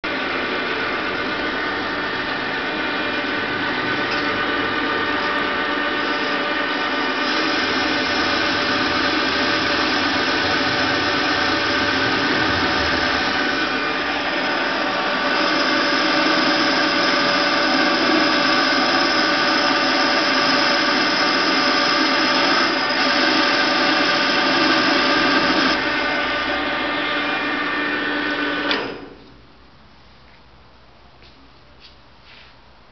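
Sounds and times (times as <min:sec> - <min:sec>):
metal lathe machine whine: 0:00.1 - 0:29.2.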